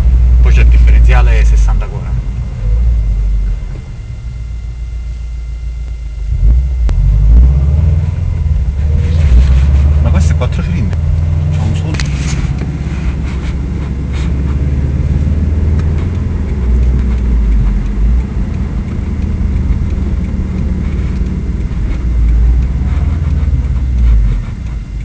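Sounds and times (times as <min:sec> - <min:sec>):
car engine low rumble: 0:00.0 - 0:25.0.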